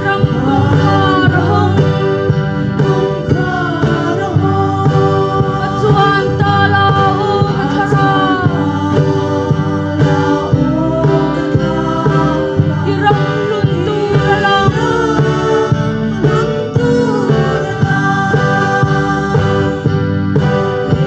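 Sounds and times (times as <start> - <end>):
cajon beat: 0.0 - 21.0
group singing gospel song: 0.0 - 21.0
strummed acoustic guitar: 0.0 - 21.0.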